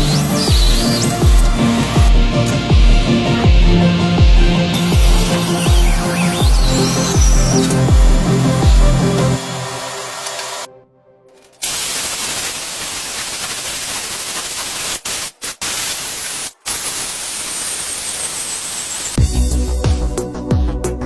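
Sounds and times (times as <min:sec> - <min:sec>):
loud static hiss: 0:00.0 - 0:10.7, 0:11.6 - 0:19.2.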